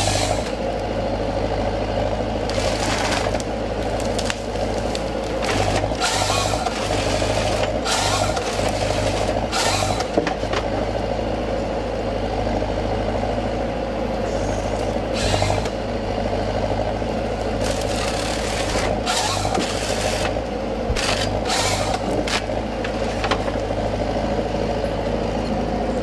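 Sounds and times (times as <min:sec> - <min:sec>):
heavy diesel engine drone: 0:00.0 - 0:26.0.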